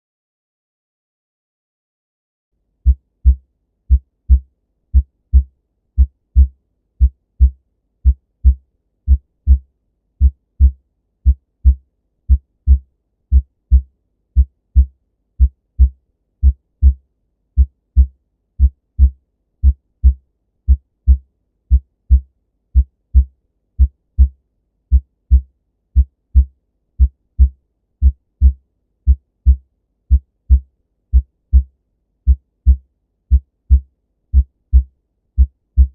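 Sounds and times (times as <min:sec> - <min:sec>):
heartbeat lub-dub: 0:02.8 - 0:09.6, 0:10.2 - 0:17.0, 0:17.6 - 0:31.7, 0:32.3 - 0:35.9.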